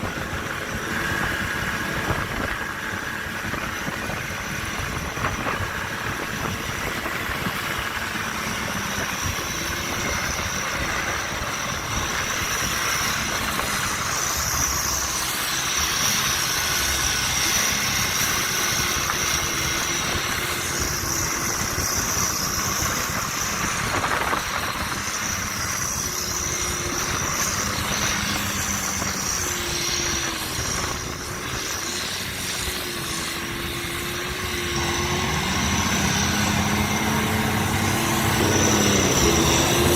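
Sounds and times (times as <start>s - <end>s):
high whine: 0.0s - 39.9s
tractor diesel engine running: 0.0s - 39.9s.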